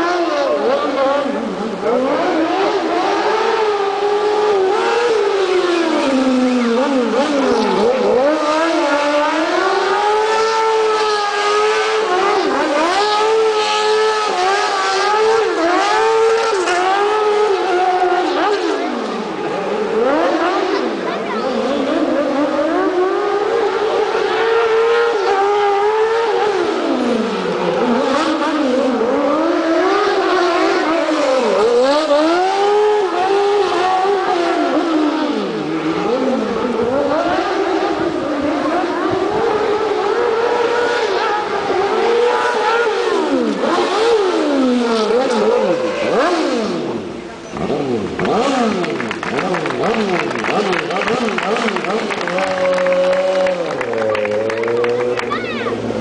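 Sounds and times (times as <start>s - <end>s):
buggy engine revving: 0.0s - 56.0s.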